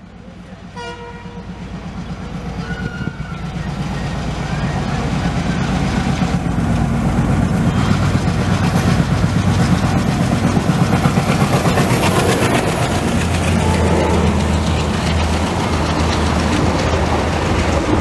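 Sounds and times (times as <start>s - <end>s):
locomotive engine drone: 0.0s - 18.0s
train wheels clattering on track: 0.0s - 18.0s.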